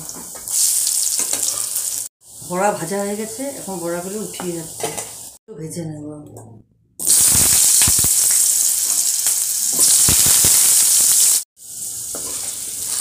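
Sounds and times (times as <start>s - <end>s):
potatoes sizzling in hot oil: 0.0s - 5.4s, 7.0s - 13.0s.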